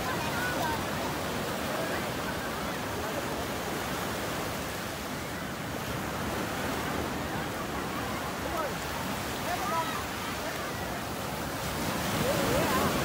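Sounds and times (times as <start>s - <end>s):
faint voices: 0.0s - 13.0s
surf breaking on beach: 0.0s - 13.0s.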